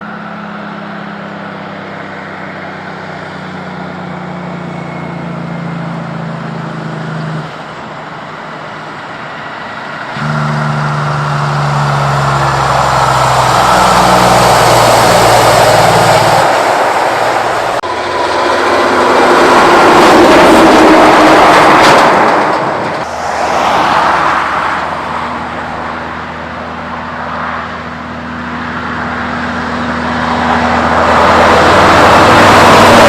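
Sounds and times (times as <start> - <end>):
passing truck engine and tyres: 0.0 - 33.0
truck diesel engine humming: 0.0 - 33.0.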